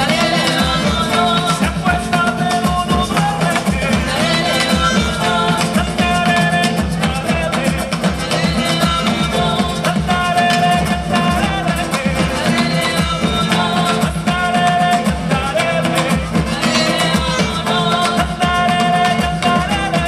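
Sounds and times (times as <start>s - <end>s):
driving drum beat: 0.0s - 20.0s
guitar: 0.0s - 20.0s.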